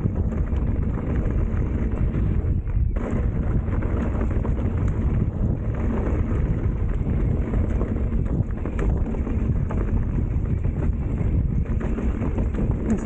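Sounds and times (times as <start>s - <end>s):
bike clicks and rattles: 0.0s - 13.0s
bike rumbling over dirt: 0.0s - 13.0s
wind buffeting microphone: 0.0s - 13.0s.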